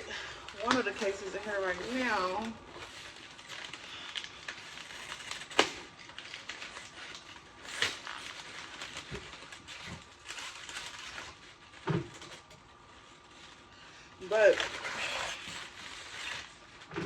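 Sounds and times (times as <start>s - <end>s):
rustling and shuffling of groceries: 0.0s - 17.0s.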